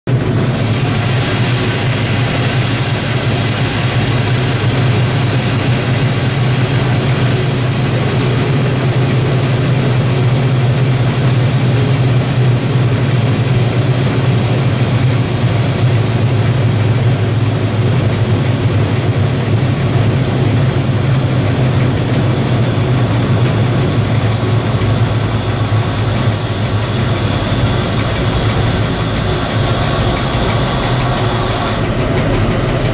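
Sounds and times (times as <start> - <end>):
diesel locomotive engine droning: 0.0 - 32.9
rumbling track noise: 0.1 - 32.9.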